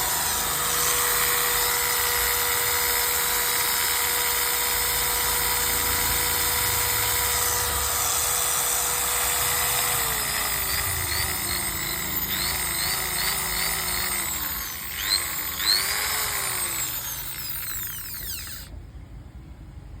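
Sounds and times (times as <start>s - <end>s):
electric drill whining: 0.0s - 18.8s.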